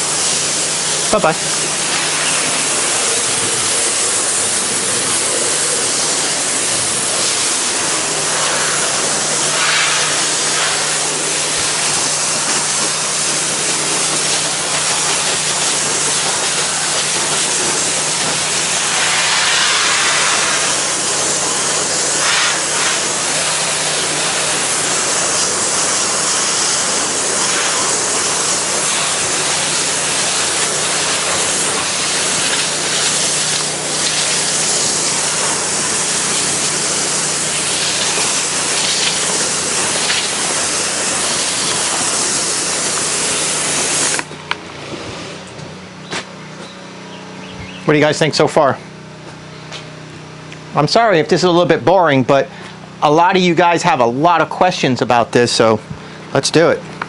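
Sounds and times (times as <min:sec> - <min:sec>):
pressure washer water jet hissing: 0:00.0 - 0:57.0.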